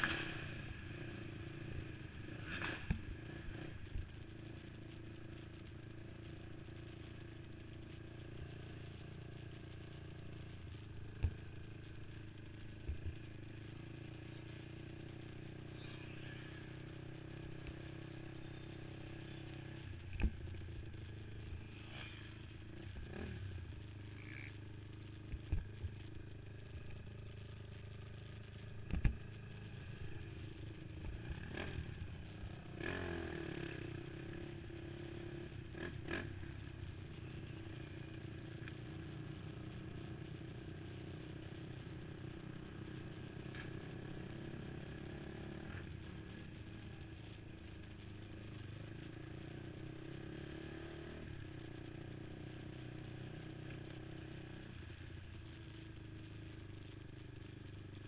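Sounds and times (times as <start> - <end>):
quad engine running at low revs: 0.0 - 58.0.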